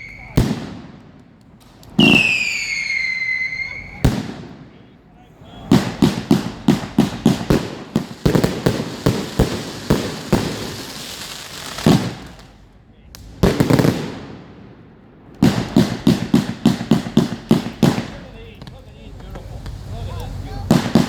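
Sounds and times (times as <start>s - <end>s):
firework cake firing volleys: 0.0s - 21.0s
firework crackling: 0.0s - 21.0s.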